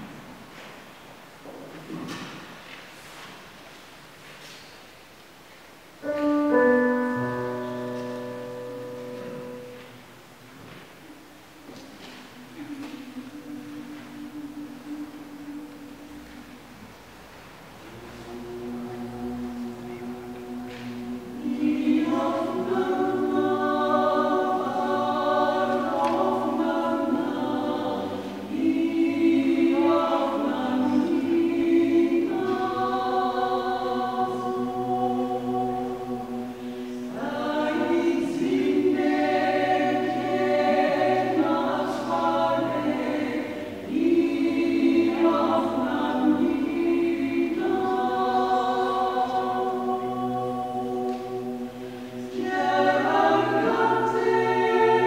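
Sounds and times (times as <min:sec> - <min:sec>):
mixed choir singing a cappella: 0:06.0 - 0:55.0.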